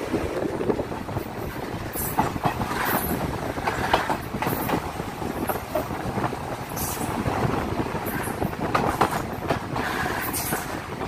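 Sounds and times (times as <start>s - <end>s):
train wheels rumbling: 0.0s - 11.0s
clacks over rail joints: 0.5s - 11.0s.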